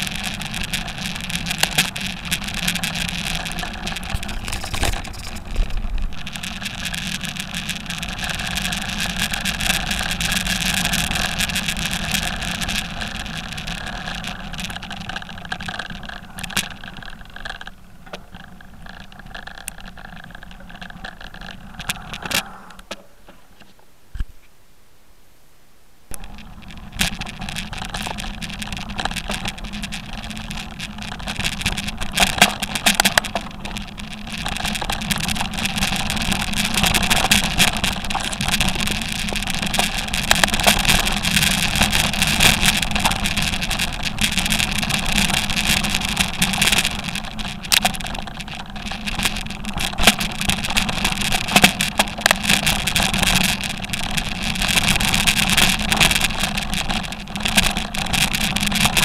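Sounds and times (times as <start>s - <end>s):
vehicle engine under load: 0.0s - 22.8s, 26.1s - 59.0s
stones knocking and chassis rattling: 0.0s - 23.4s, 26.1s - 59.0s.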